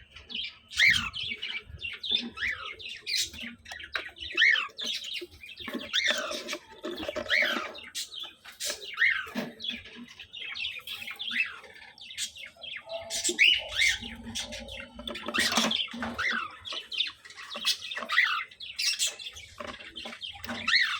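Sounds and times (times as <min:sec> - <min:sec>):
cockatiels chirping and calling: 0:00.0 - 0:20.9.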